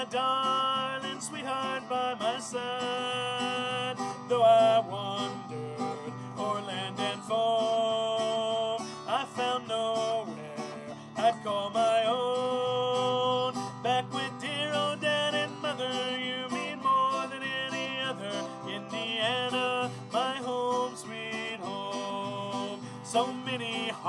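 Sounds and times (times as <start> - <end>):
acoustic guitar: 0.0 - 24.0
man singing country song: 0.0 - 24.0.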